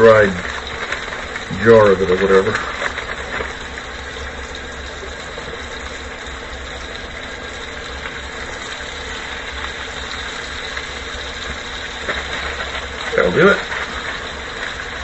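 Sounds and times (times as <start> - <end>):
low steady hum: 0.0 - 15.0
steak sizzling in a skillet: 0.0 - 15.0.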